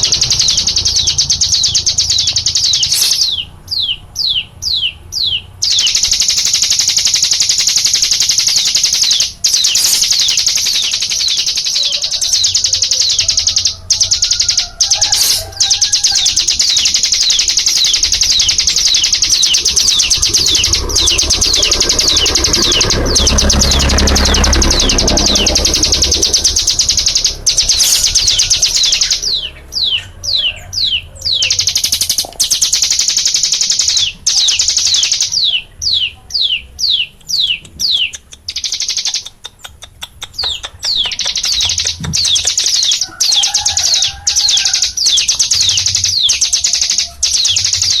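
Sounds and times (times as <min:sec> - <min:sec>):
songbird trilling: 0:00.0 - 0:48.0.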